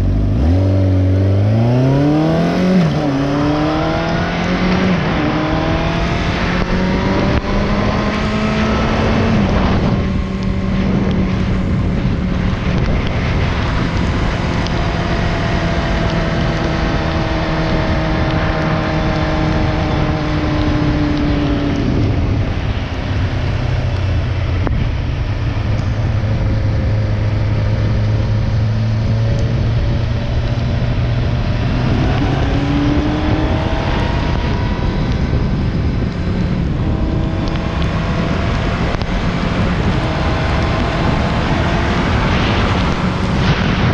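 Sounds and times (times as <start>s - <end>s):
motorcycle engine accelerating: 0.0s - 43.9s
wind and road noise: 0.0s - 43.9s.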